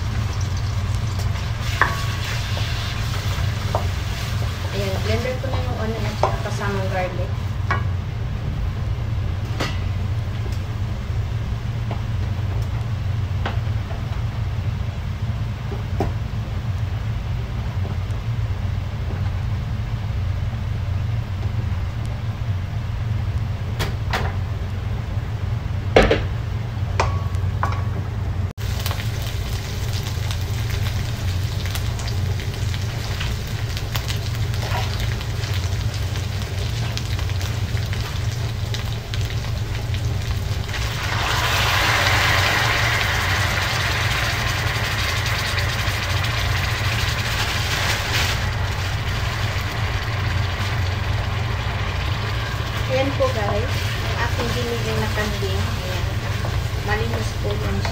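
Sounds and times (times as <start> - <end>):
onion and garlic sizzling in a pan: 0.0 - 22.4, 28.6 - 57.9
steady low hum: 0.0 - 57.9.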